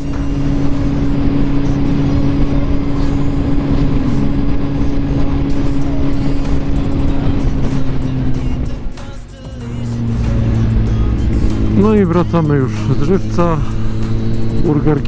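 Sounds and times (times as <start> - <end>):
motorcycle engine running: 0.0 - 15.0
road noise: 0.0 - 15.0
rushing wind: 0.0 - 15.0.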